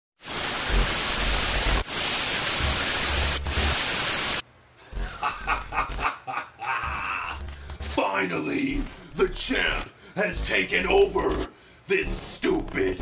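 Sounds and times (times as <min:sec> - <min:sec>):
loud static hiss: 0:00.2 - 0:13.0.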